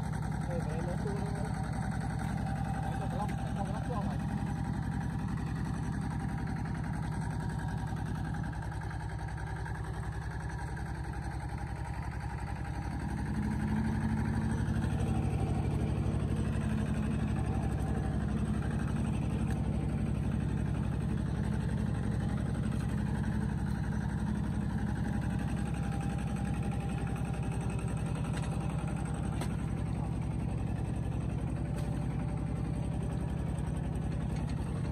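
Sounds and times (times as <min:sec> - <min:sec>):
engine humming: 0:00.0 - 0:34.9.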